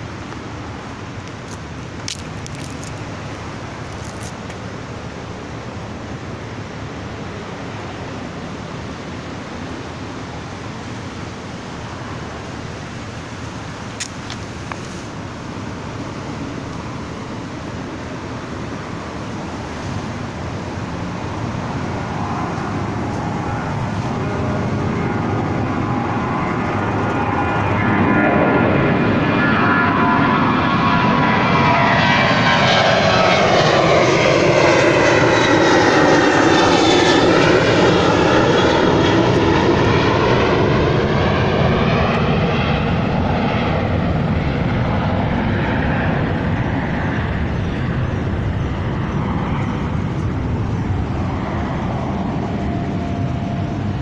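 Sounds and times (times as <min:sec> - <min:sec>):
distant engine rumble: 0:00.0 - 0:54.0
distant road traffic: 0:00.0 - 0:54.0.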